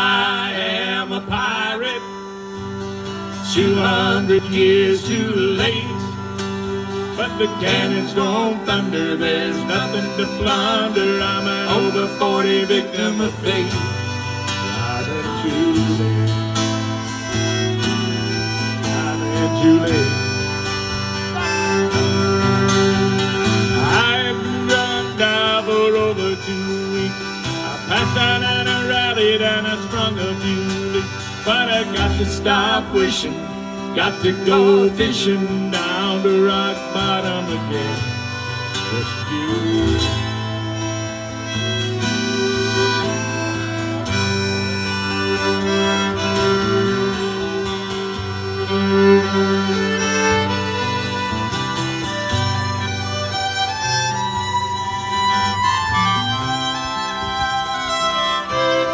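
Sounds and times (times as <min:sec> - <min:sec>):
accordion: 0:00.0 - 0:58.9
acoustic guitar strumming: 0:00.0 - 0:58.9
fiddle: 0:00.0 - 0:58.9.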